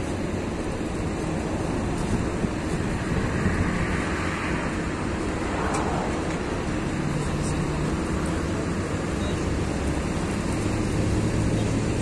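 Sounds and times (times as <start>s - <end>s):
bus diesel engine humming: 0.0s - 12.0s
road noise: 0.0s - 12.0s.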